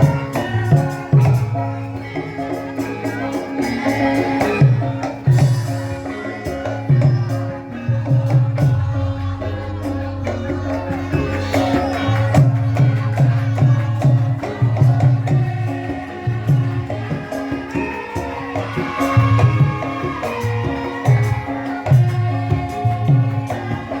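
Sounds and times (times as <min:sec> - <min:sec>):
gamelan music: 0:00.0 - 0:24.0
sustained metallic tones: 0:00.0 - 0:24.0.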